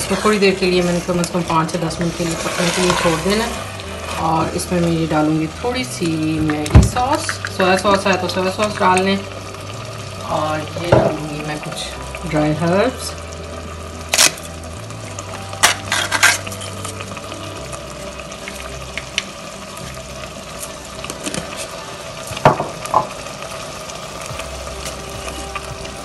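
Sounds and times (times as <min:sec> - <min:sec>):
sauce simmering with a sizzle: 0:00.0 - 0:26.0.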